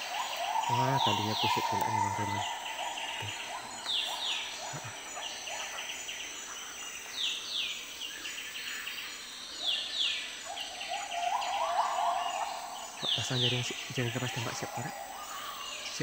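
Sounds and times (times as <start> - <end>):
songbirds calling: 0.0 - 16.0.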